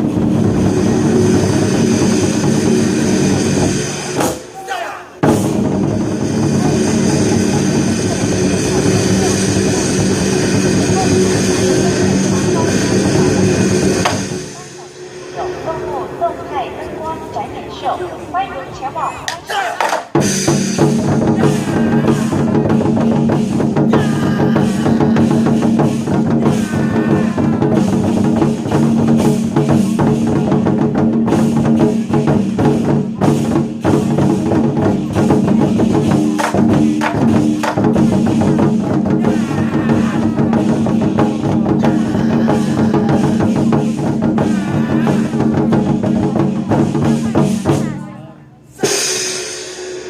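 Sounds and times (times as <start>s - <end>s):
war drums beaten fast: 0.0s - 15.5s, 19.3s - 48.1s.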